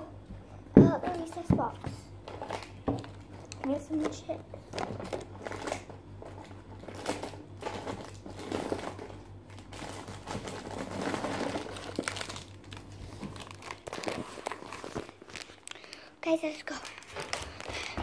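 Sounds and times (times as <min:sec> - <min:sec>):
packaging crinkling: 0:02.2 - 0:18.0.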